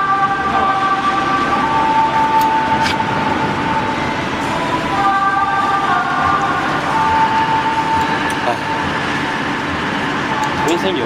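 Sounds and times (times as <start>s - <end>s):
workshop machinery drone: 0.0s - 11.0s.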